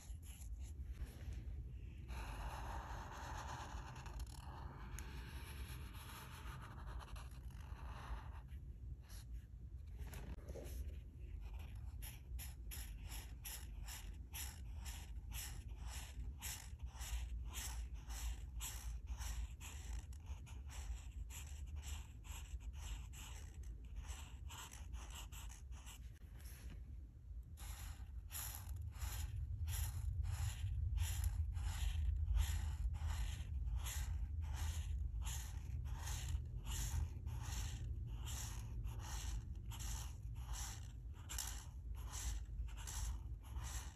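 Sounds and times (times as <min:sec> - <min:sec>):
marker scratching on paper: 0:00.0 - 0:01.2, 0:01.8 - 0:26.8, 0:27.5 - 0:43.9
steady low hum: 0:00.0 - 0:43.9.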